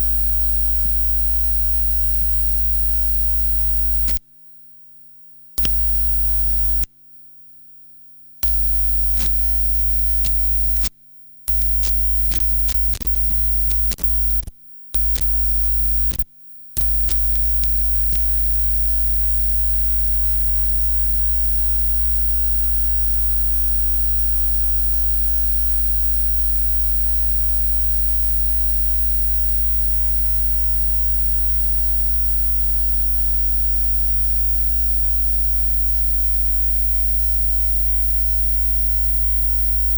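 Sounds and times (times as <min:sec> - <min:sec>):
mains hum: 0:00.0 - 0:39.9.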